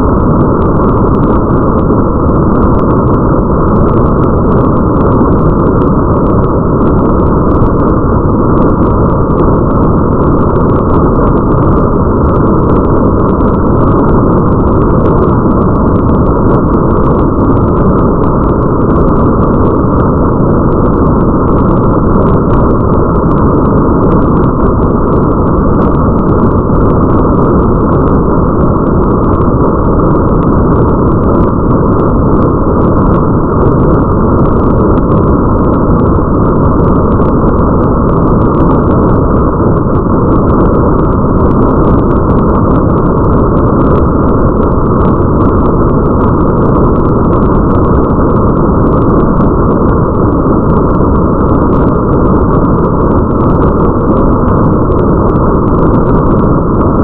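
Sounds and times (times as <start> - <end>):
deep rumble: 0.0 - 53.6, 54.2 - 57.0
muffled rain hiss: 0.0 - 57.0.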